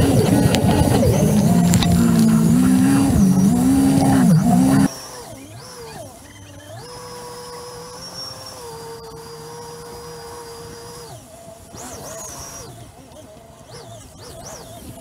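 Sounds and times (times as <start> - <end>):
personal watercraft engine whine: 0.0 - 15.0.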